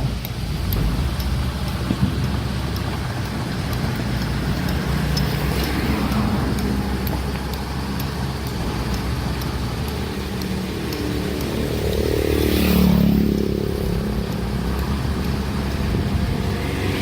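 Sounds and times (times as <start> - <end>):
diesel engine rumbling: 0.0 - 17.0
faint ticks: 0.0 - 17.0.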